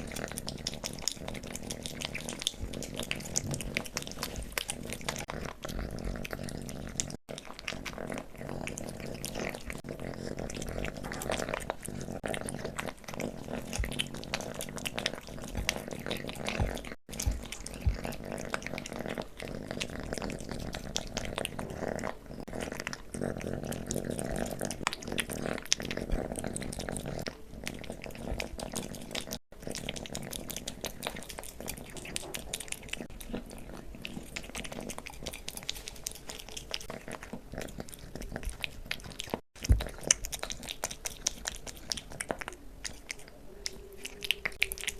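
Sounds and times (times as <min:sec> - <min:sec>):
kitten licking and smacking food: 0:00.0 - 0:44.9.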